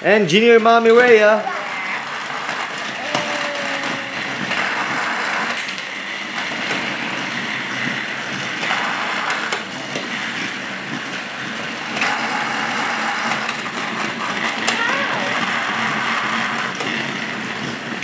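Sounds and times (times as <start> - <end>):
toy trains rattling on track: 0.0 - 18.0.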